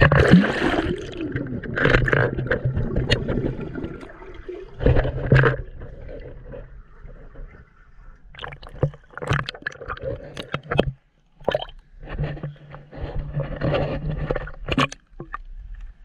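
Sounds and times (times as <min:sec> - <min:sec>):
muffled underwater swimming: 0:00.0 - 0:16.0
water splashing against camera: 0:00.0 - 0:16.0.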